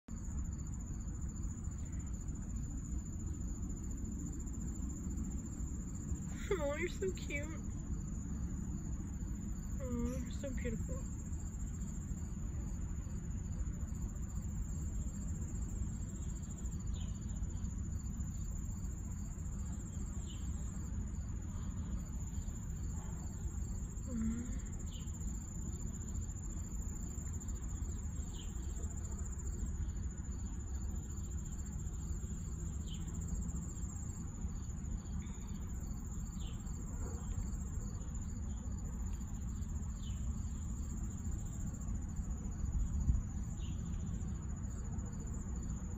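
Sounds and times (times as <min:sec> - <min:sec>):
crickets droning: 0:00.1 - 0:45.9.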